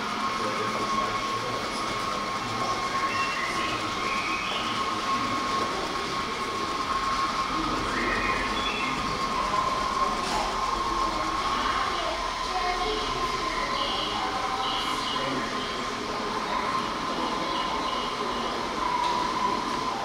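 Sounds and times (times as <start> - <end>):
wheels rumbling on track: 0.0 - 20.0.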